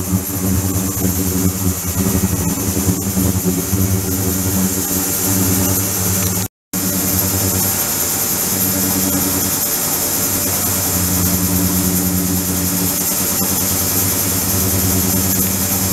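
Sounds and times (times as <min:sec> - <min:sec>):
ultrasonic cleaner humming: 0:00.0 - 0:15.9.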